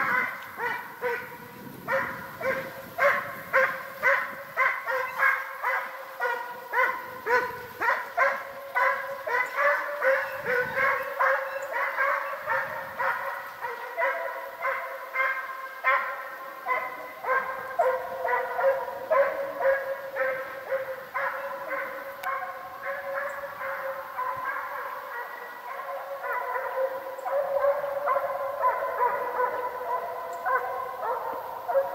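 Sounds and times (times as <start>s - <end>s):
hounds yelping barks: 0.0s - 31.9s.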